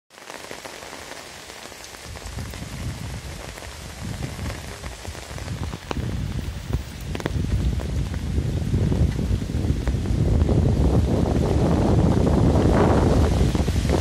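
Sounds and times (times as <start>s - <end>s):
heavy rain falling: 0.1s - 14.0s
wind rumbling on microphone: 1.9s - 14.0s.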